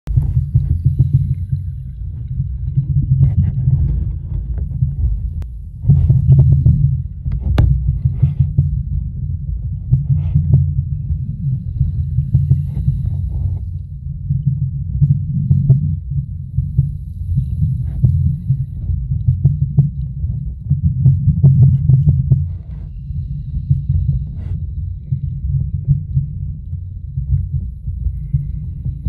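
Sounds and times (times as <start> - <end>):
underwater churning water rumble: 0.1 - 29.0.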